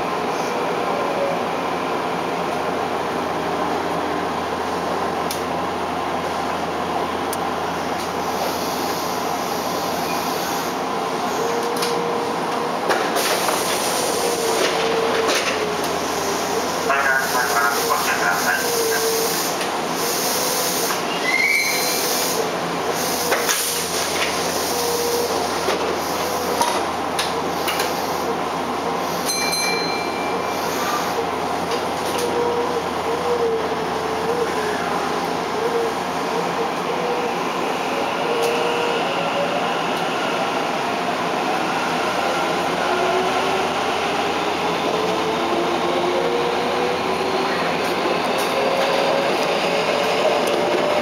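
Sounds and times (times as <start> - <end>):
subway car humming: 0.0 - 51.0
train running noise: 0.0 - 51.0
train slowing to stop: 0.0 - 51.0.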